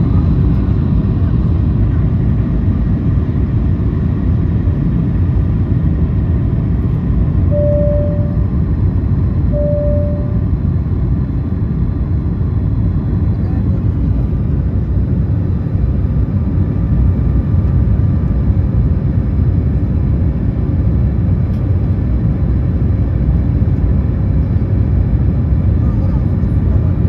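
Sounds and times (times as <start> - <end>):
airliner cabin engine rush: 0.0 - 27.0.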